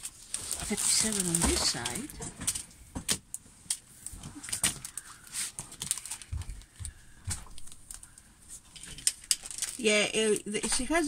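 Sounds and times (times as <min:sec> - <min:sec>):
plastic film clicking and crinkling: 0:00.0 - 0:11.0.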